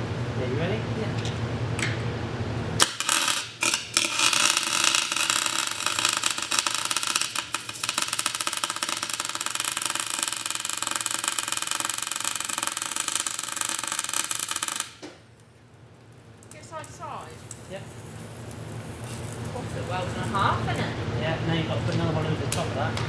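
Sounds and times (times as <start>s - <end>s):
welder arc crackling: 2.7s - 23.0s.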